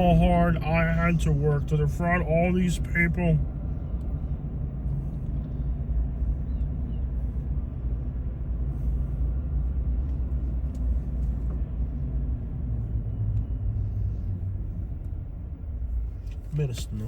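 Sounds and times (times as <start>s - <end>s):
truck engine and tyre rumble: 0.0s - 17.0s.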